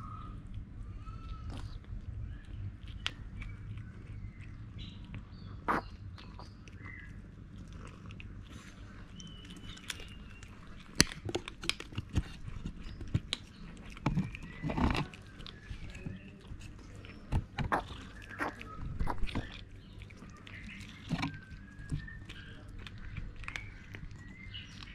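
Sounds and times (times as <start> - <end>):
cats crunching dry kibble: 0.0 - 24.9.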